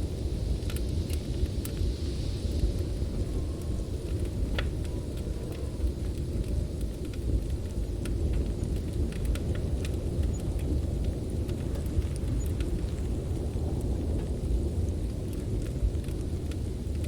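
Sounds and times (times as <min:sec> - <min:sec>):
storm wind roaring: 0:00.0 - 0:17.0
wood fire crackling and popping: 0:00.0 - 0:17.0.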